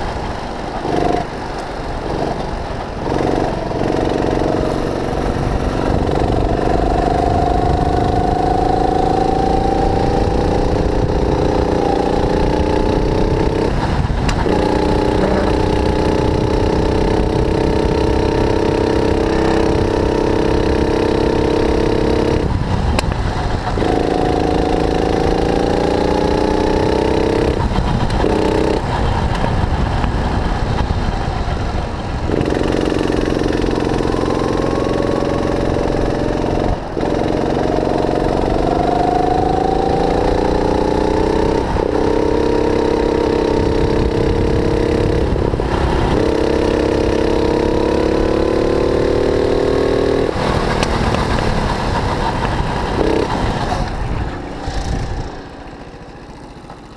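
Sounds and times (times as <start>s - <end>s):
constant low rumble: 0.0s - 47.8s, 49.8s - 56.9s
kart engine revving: 0.0s - 56.9s.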